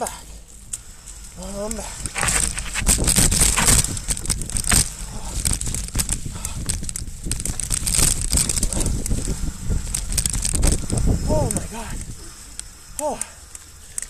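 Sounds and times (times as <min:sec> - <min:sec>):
bike rattling over roots: 0:00.0 - 0:14.0
tyres crunching through dry leaves: 0:00.0 - 0:14.0.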